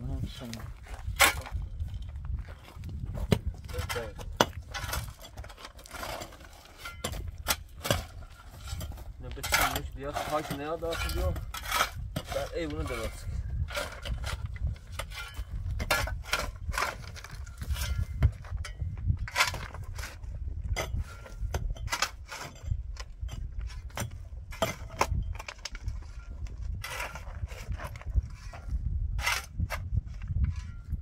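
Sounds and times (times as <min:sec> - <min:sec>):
pickaxe and shovel digging stony earth: 0:00.0 - 0:31.0.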